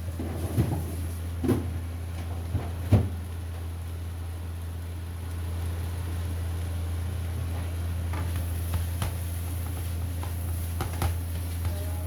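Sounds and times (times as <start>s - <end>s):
noodles frying in a wok: 0.0s - 12.0s.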